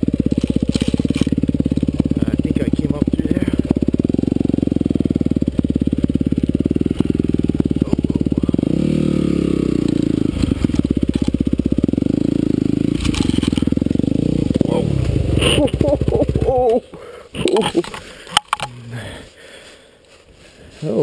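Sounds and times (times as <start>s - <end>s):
dirt bike engine chugging: 0.0s - 20.0s.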